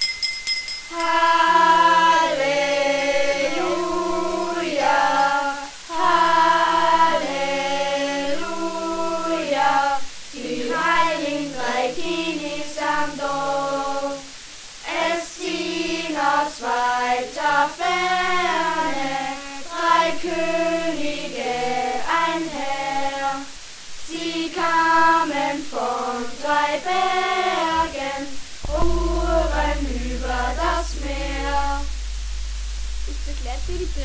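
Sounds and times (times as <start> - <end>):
children singing in unison: 0.9 - 31.9.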